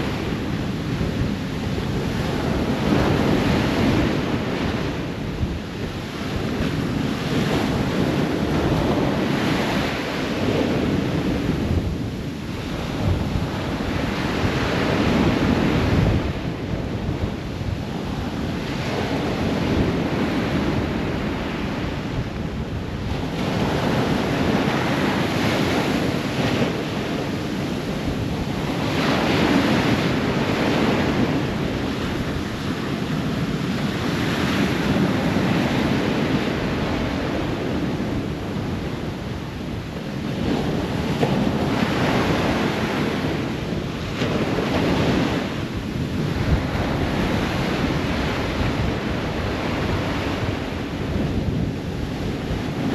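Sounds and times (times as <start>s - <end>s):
ocean waves breaking on shore: 0.0s - 52.9s.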